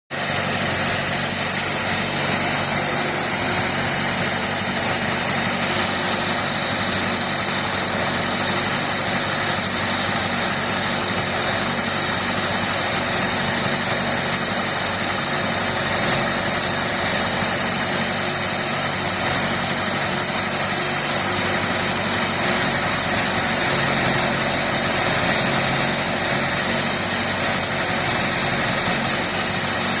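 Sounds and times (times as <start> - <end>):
engine knock: 0.1 - 30.0
petrol engine running: 0.2 - 30.0.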